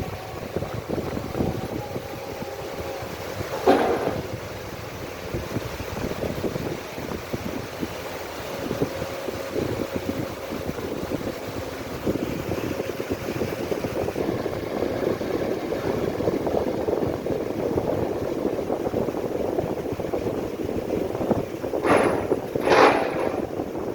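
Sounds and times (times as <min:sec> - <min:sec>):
piling rig engine rumbling: 0:00.0 - 0:23.9.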